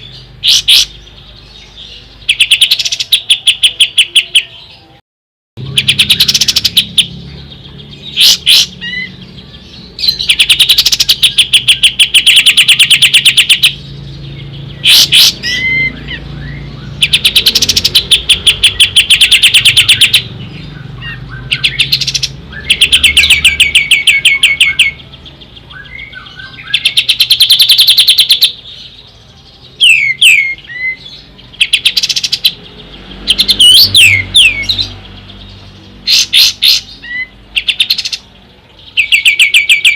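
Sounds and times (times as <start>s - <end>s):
bird singing rapid trills: 0.0s - 5.0s, 5.6s - 39.9s.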